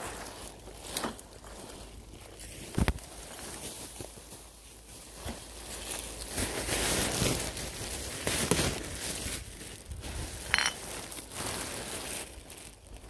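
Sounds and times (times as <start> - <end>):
plastic bag and clothes rustling: 0.0 - 13.0.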